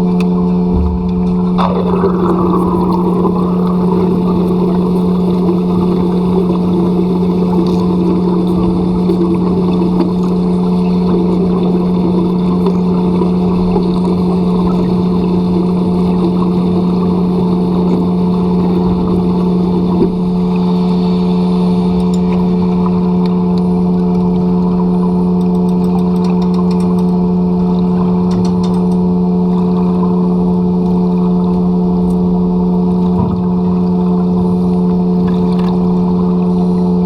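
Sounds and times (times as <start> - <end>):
mechanical drone with hum: 0.0 - 37.0.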